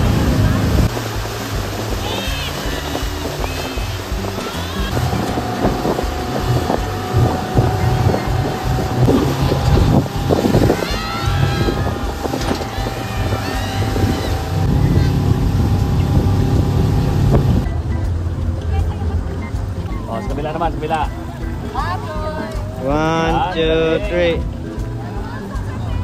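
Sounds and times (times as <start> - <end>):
motorboat engine under load: 0.0 - 26.0
water splashing: 0.0 - 26.0
wind buffeting microphone: 0.0 - 26.0.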